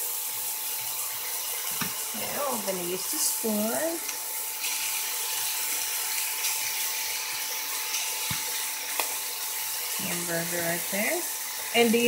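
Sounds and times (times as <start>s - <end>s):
onions sizzling in a frying pan: 0.0s - 12.0s.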